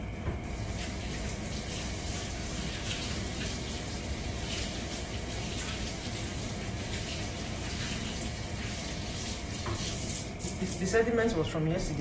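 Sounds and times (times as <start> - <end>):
hot oil hissing and crackling: 0.4 - 11.0.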